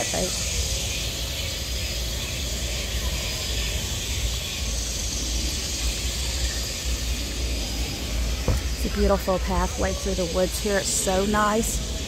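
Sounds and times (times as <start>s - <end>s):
high-pitched outdoor hiss: 0.0s - 12.0s.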